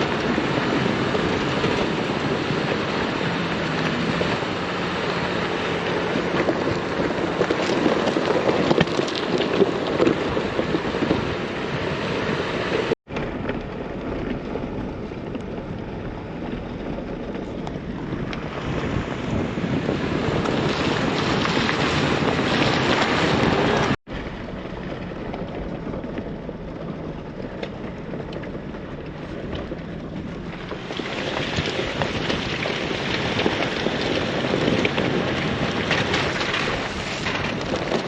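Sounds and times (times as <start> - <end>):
vehicle tyres rumbling: 0.0 - 38.0
wind on microphone: 0.0 - 38.0.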